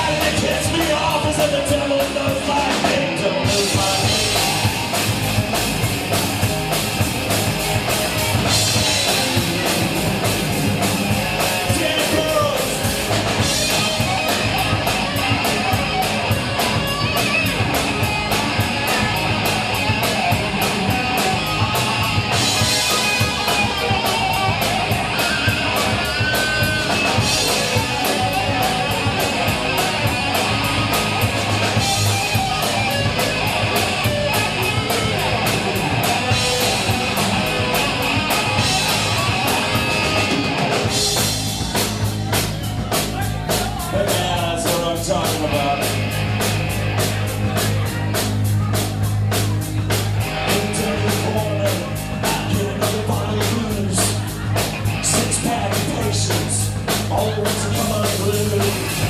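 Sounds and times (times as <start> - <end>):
drum-kit beat: 0.0 - 59.0
electric guitar: 0.0 - 59.0.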